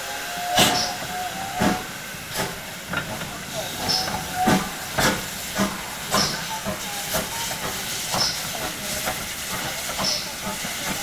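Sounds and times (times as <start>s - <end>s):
steam locomotive hissing and chuffing: 0.0s - 11.0s.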